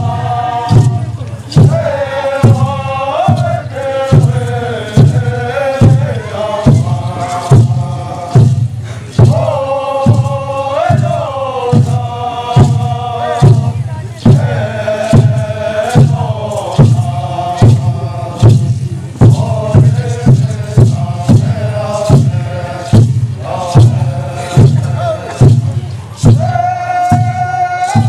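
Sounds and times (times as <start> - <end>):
men's chorus chanting: 0.0 - 28.0.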